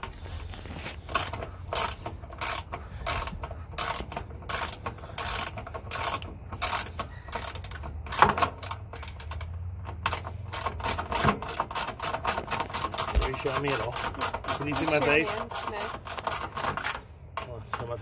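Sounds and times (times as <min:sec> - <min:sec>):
socket ratchet clicking: 0:01.1 - 0:16.8.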